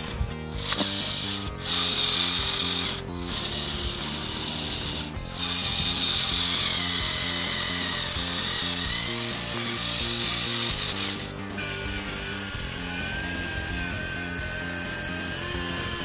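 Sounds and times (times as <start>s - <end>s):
background music: 0.0s - 16.0s
small electric motor whining: 0.0s - 16.0s.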